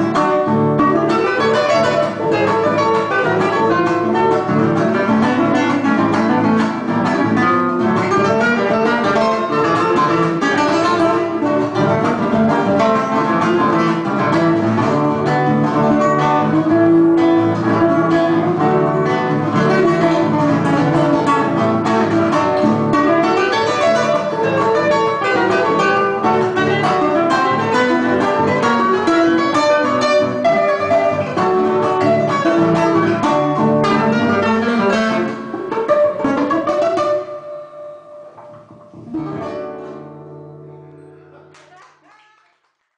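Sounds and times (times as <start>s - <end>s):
classical guitars playing folk music: 0.0s - 41.6s.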